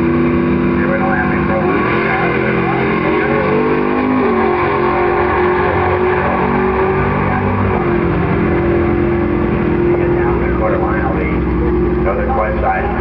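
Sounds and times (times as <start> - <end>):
drag car engines at full throttle: 0.0 - 13.0.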